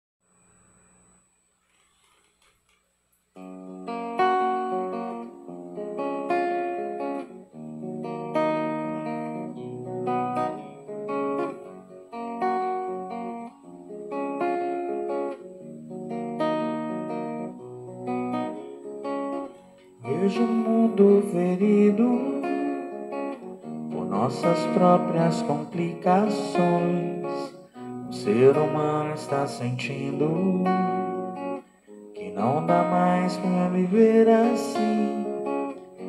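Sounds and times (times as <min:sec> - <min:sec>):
acoustic guitar chords: 0:03.4 - 0:36.0.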